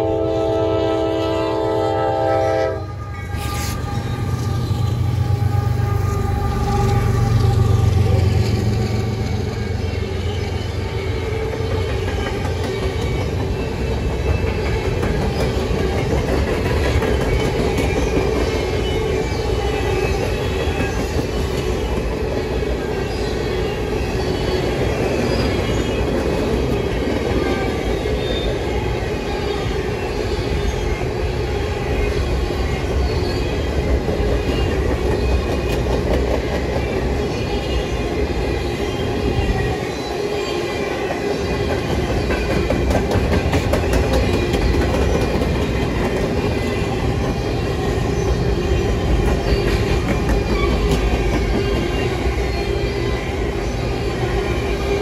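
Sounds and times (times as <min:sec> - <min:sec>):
freight train wheels clattering: 0:03.3 - 0:30.9, 0:32.6 - 0:55.0.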